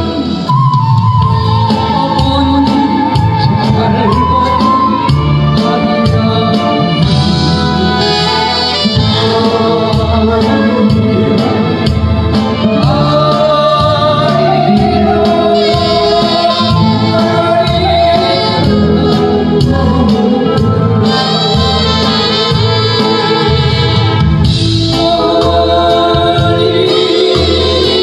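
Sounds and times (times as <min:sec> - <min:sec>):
man singing into microphone: 0:00.0 - 0:12.0, 0:12.6 - 0:24.0, 0:24.8 - 0:28.0
backing track with steady beat: 0:00.0 - 0:28.0.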